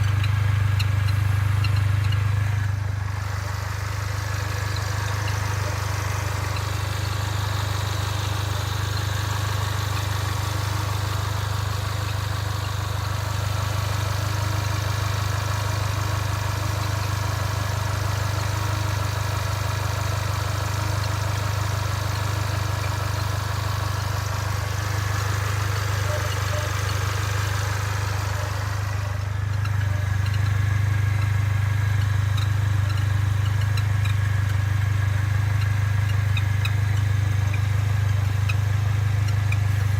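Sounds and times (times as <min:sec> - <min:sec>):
car engine low drone: 0:00.0 - 0:39.9.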